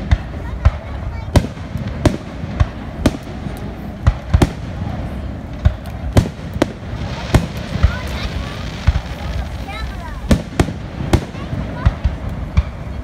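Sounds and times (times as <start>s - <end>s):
background rumble: 0.0s - 13.0s.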